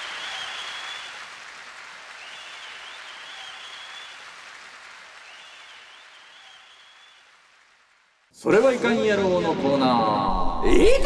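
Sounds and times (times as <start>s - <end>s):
steady applause-like hiss: 0.0s - 9.4s.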